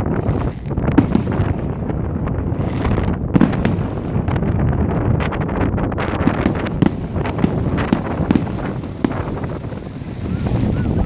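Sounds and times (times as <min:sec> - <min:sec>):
fireworks loud cracks: 0:00.0 - 0:04.6, 0:06.2 - 0:11.0
fireworks crackling bangs: 0:00.0 - 0:11.0.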